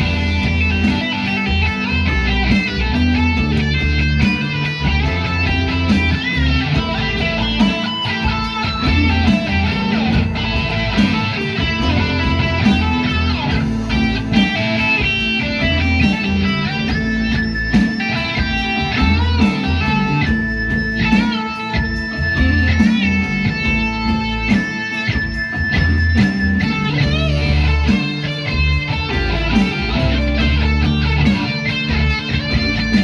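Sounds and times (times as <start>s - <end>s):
guitar-led instrumental music: 0.0s - 33.0s.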